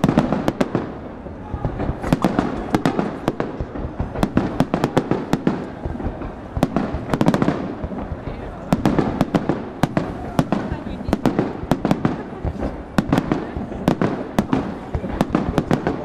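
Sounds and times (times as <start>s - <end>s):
fireworks bangs and cracks: 0.0s - 16.0s.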